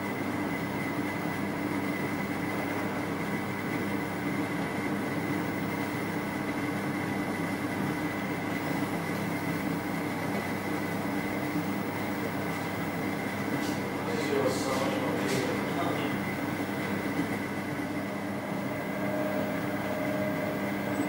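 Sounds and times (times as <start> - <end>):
potter's wheel motor hum: 0.0 - 21.0.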